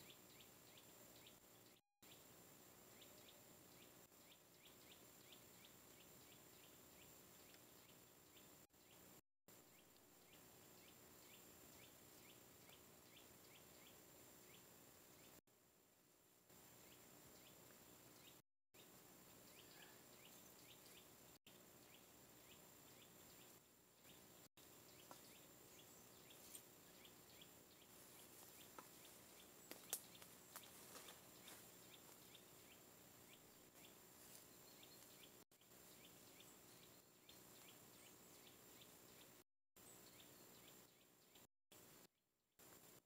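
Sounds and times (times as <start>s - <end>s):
small birds chirping: 0.0s - 15.4s, 16.5s - 42.8s.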